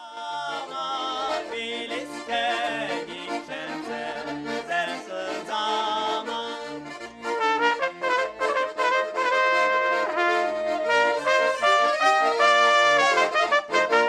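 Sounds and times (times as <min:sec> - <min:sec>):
accordion playing folk tune: 0:00.0 - 0:14.0.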